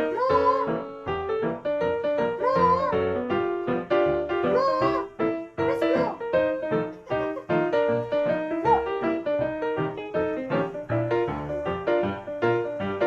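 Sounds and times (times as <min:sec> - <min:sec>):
upbeat bouncy background music: 0:00.0 - 0:13.0.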